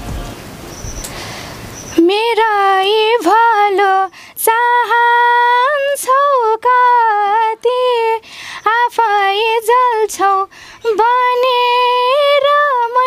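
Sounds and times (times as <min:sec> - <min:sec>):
woman singing unaccompanied: 0:01.9 - 0:13.0.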